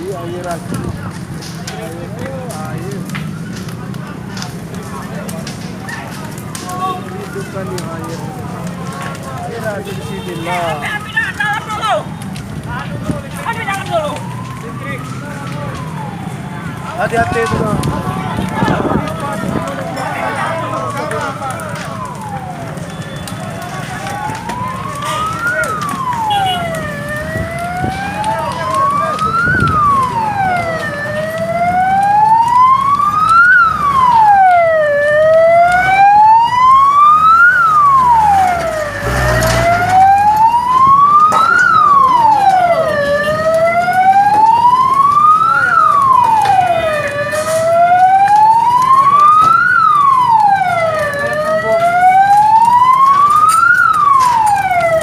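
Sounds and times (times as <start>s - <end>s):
emergency vehicle siren wailing: 0.0s - 55.0s.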